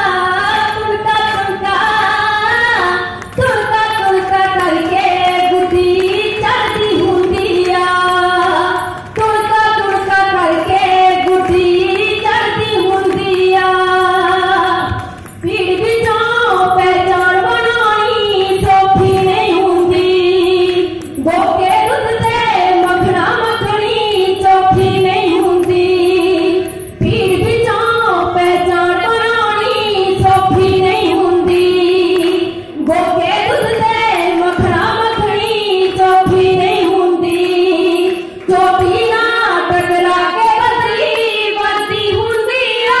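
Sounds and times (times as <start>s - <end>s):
woman singing into a microphone: 0.0s - 43.0s.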